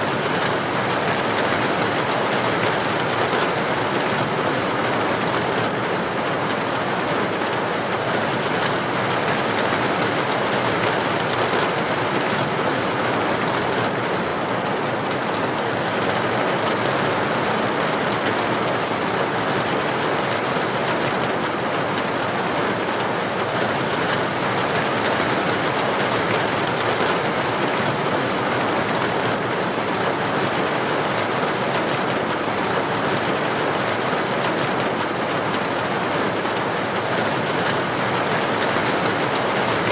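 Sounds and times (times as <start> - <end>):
heavy rain on a street: 0.0 - 39.9.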